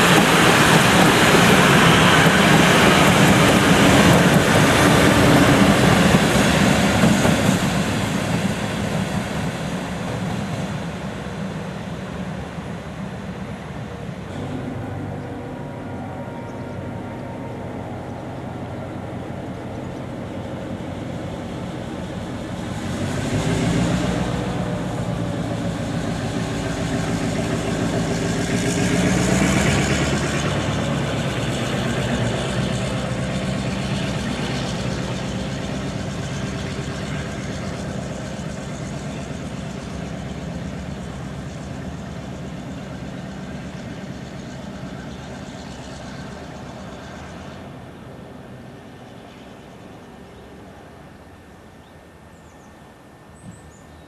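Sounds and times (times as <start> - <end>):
diesel locomotive passing: 0.0 - 54.0.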